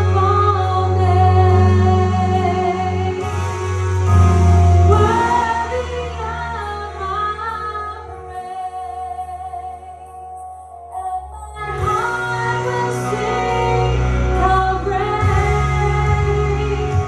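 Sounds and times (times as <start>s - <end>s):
woman singing: 0.0s - 3.4s, 4.9s - 17.0s
keyboard chords and bass: 0.0s - 17.0s.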